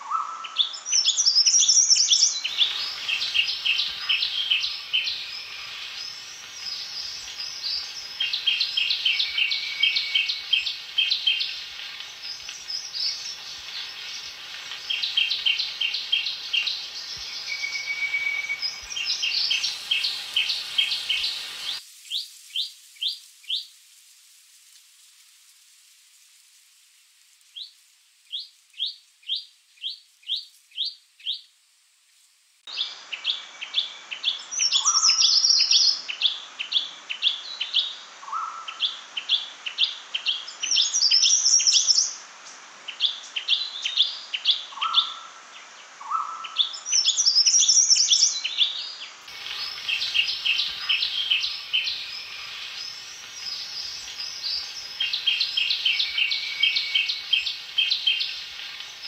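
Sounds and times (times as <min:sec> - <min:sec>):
bird song: 0:00.0 - 0:23.6, 0:32.7 - 0:59.0.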